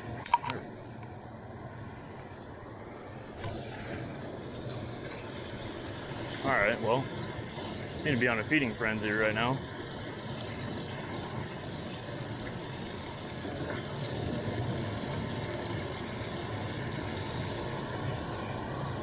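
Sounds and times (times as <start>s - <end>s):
water rushing over weir: 0.0s - 19.0s.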